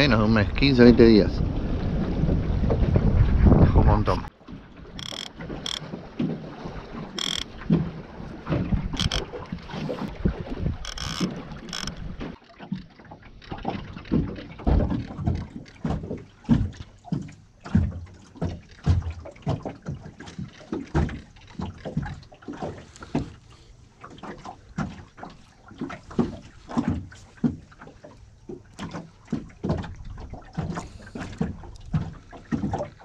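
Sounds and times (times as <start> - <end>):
water slapping boat hull: 0.0 - 33.0.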